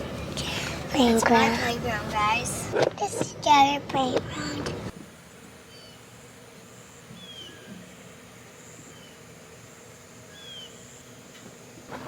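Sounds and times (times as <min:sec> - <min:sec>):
birds chirping: 0:00.0 - 0:11.8
faint outdoor background: 0:00.0 - 0:12.0.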